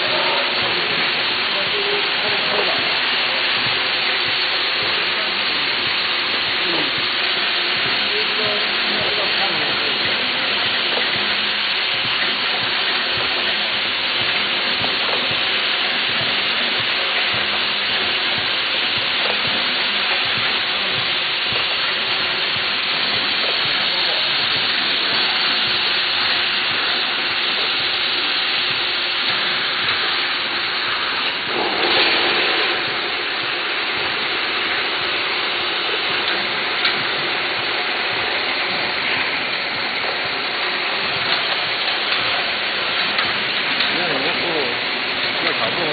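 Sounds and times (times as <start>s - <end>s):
loud rush of noise: 0.0s - 45.9s
printing machine hissing: 0.0s - 45.9s.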